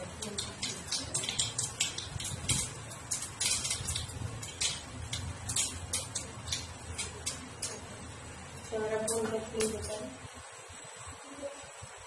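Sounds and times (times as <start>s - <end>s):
seeds crackling and popping: 0.0s - 10.2s
hot oil sizzling in a wok: 0.0s - 12.0s.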